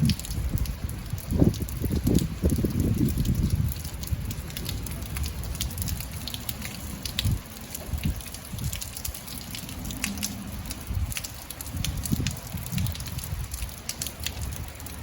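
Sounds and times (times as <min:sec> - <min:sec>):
rain drops ticking: 0:00.0 - 0:15.0.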